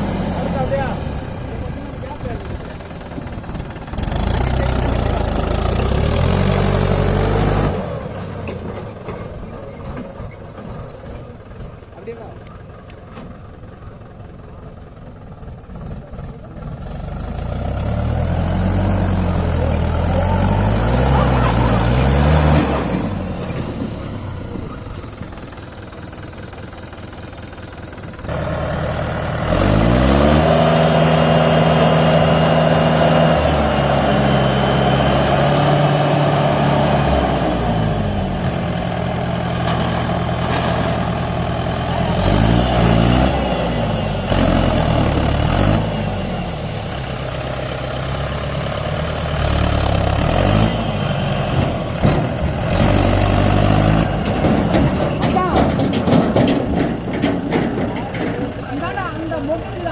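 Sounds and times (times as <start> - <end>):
tractor engine revving: 0.0 - 59.9.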